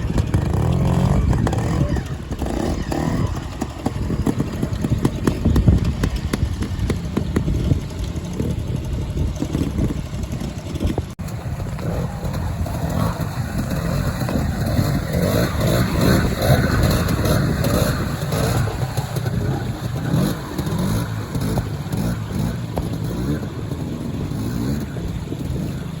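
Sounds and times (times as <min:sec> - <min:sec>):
motorcycle engine revving unevenly: 0:00.0 - 0:26.0.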